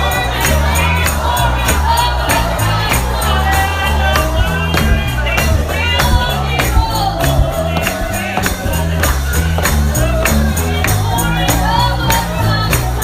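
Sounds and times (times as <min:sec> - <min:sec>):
bass line: 0:00.0 - 0:13.0
percussion beat: 0:00.0 - 0:13.0
tambourine: 0:00.0 - 0:13.0
voices singing: 0:00.0 - 0:13.0.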